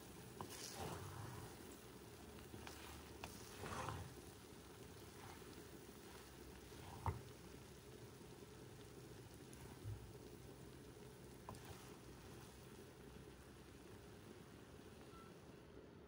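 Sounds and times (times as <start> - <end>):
wooden spoon fluffing rice: 0.0 - 13.7.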